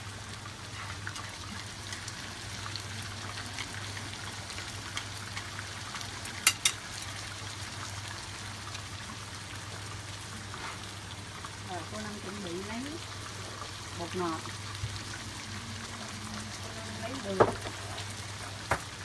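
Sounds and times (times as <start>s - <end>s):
tomatoes sizzling in oil: 0.0s - 19.0s.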